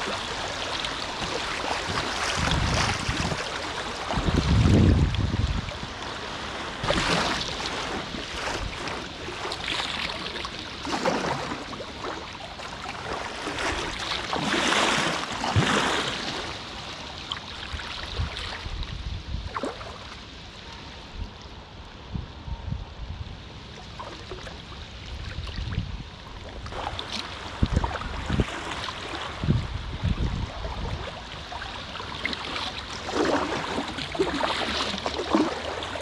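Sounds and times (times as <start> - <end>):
river water rushing and splashing: 0.0 - 21.8, 23.4 - 36.0.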